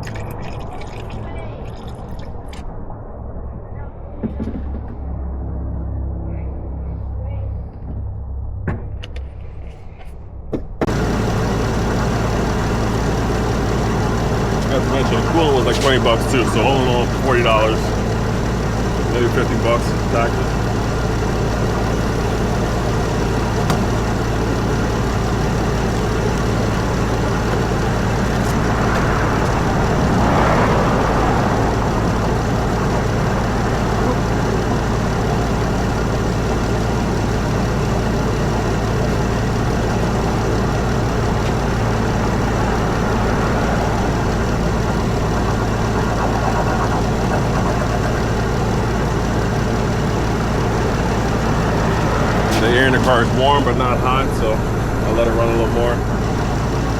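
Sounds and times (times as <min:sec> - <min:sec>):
car engine idling: 0:10.8 - 0:56.9.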